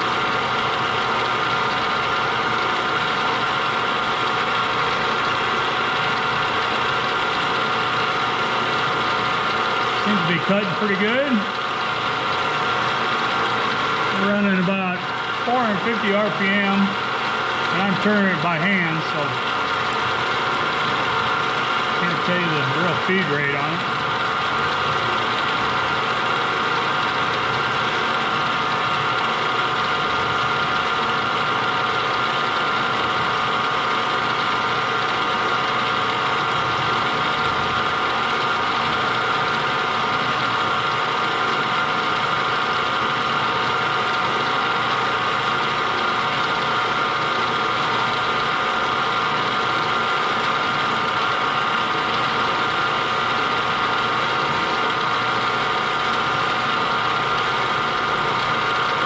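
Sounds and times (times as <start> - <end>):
machine tool spindle humming: 0.0 - 59.0.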